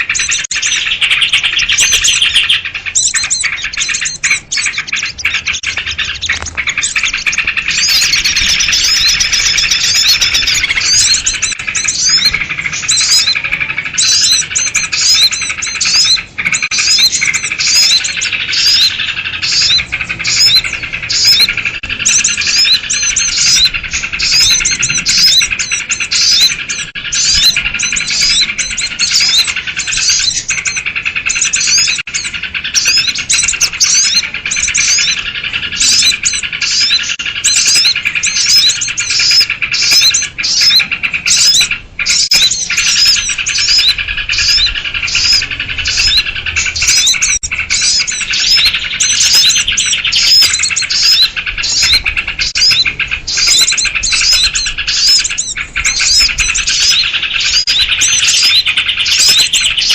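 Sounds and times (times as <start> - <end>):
bulbul calls: 0.0 - 59.9
small birds chirping: 0.0 - 59.9.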